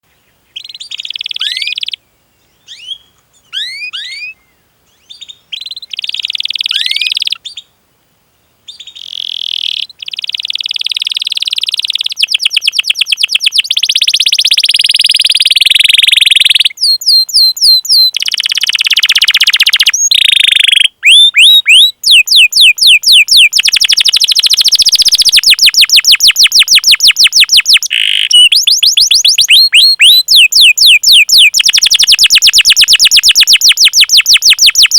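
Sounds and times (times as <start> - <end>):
canary singing chirps and trills: 0.6 - 2.0, 2.6 - 7.6, 8.7 - 34.9.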